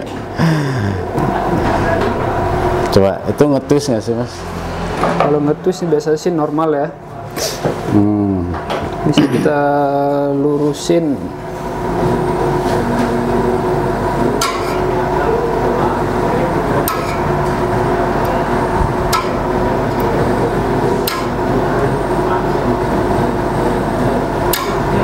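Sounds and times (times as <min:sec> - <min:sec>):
coil-winding machine humming: 0:00.0 - 0:07.2, 0:08.0 - 0:25.0.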